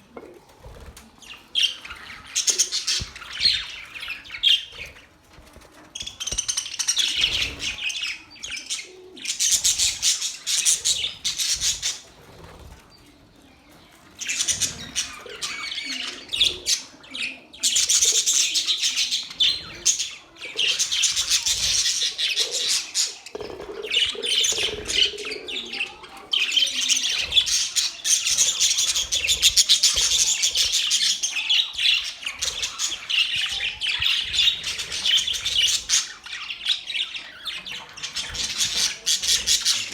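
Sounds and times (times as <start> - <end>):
budgerigars chattering and chirping: 1.2 - 5.0, 6.0 - 12.1, 14.2 - 39.9.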